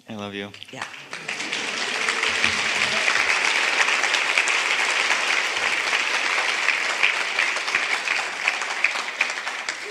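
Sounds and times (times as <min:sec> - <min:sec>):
audience applauding: 0:00.5 - 0:09.9.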